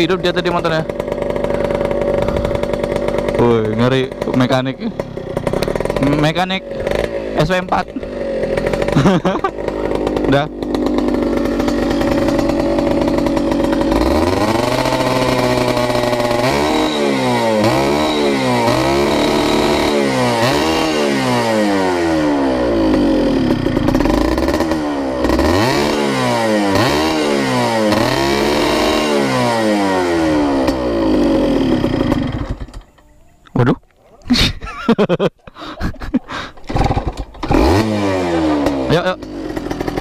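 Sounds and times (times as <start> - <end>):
two-stroke engine idling and revving: 0.0 - 33.0, 34.3 - 40.0.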